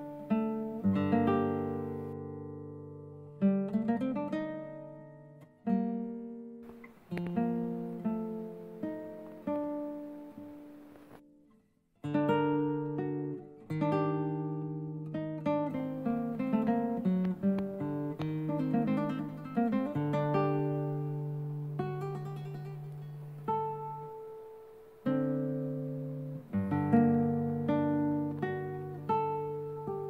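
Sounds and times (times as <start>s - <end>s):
acoustic guitar music: 0.0s - 30.0s.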